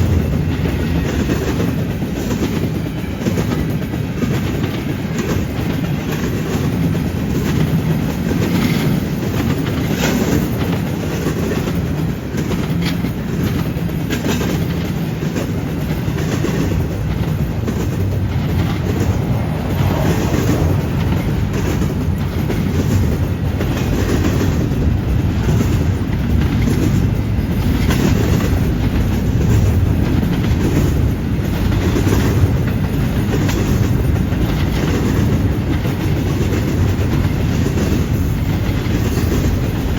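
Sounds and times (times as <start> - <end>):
steel wheels rumbling on rail: 0.0 - 39.9
wheels clacking over track joints: 0.0 - 39.9.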